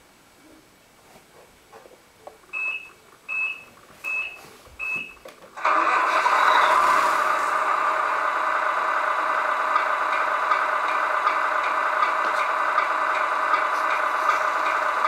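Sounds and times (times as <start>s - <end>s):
simulated diesel engine sound: 2.5s - 15.0s.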